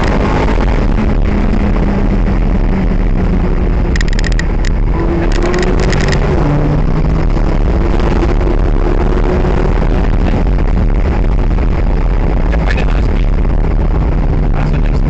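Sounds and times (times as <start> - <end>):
car engine accelerating: 0.0 - 15.0
road and wind noise: 0.0 - 15.0.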